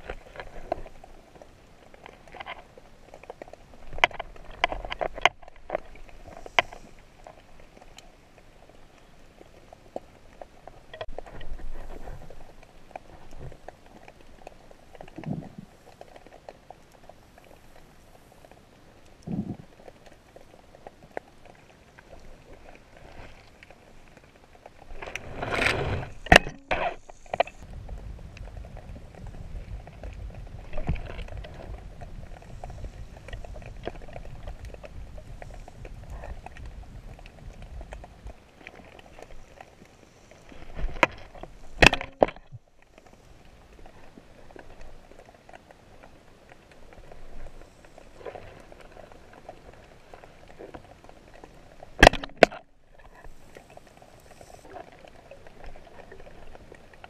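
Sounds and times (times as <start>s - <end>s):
faint underwater clicks and crackles: 0.0s - 57.0s.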